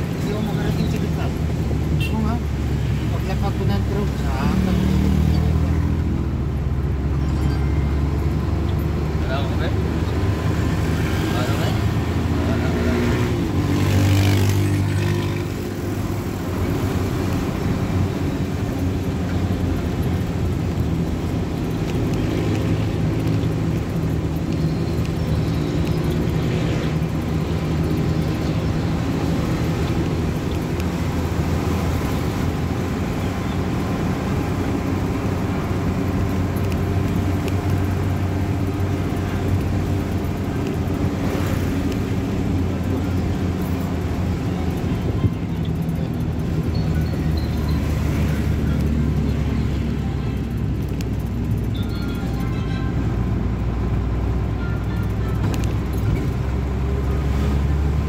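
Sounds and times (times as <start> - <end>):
tyre and road noise: 0.0 - 58.0
vehicle engine running: 0.0 - 58.0.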